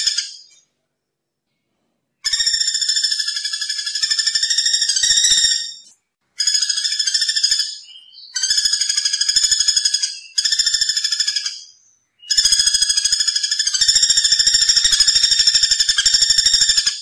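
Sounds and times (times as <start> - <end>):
woodpecker rattling trill calls: 0.0 - 0.6, 2.2 - 17.0.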